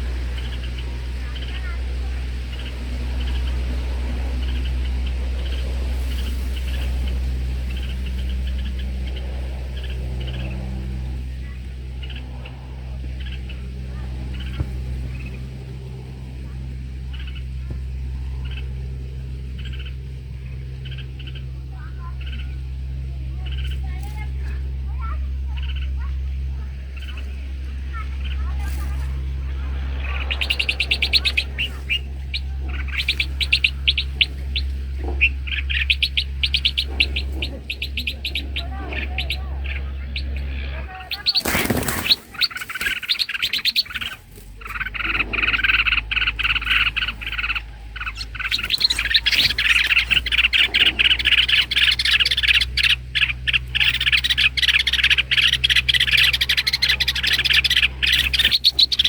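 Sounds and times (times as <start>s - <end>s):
birds chirping rapidly: 0.0s - 59.0s
steady low hum: 0.0s - 59.0s.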